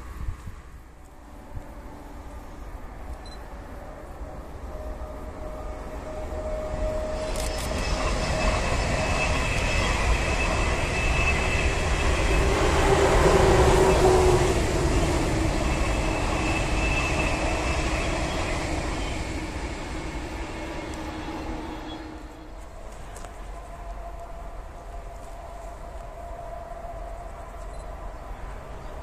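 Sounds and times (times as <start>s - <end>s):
high-speed train rushing past: 0.0s - 29.0s
train hum: 0.0s - 29.0s.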